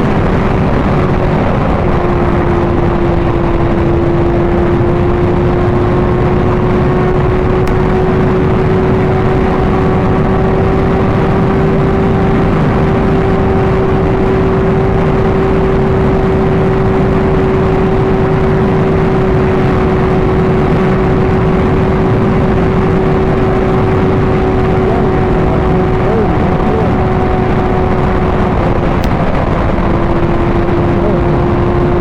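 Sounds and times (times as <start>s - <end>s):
motorcycle engine cruising: 0.0s - 32.0s
wind rush on microphone: 0.0s - 32.0s.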